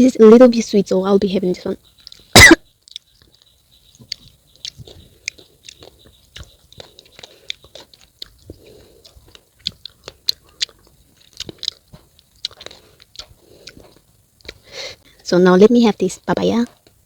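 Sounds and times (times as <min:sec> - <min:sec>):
chewing crisp fruit: 0:01.7 - 0:15.3.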